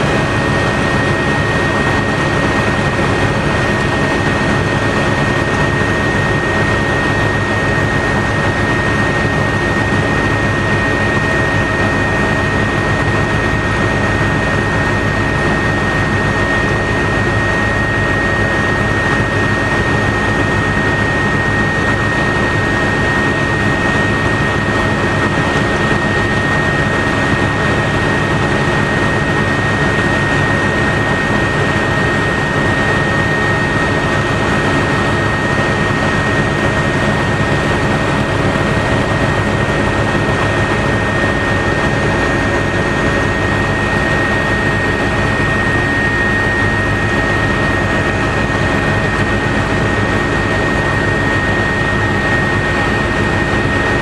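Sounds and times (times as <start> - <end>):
helicopter engine and rotor noise: 0.0 - 54.0.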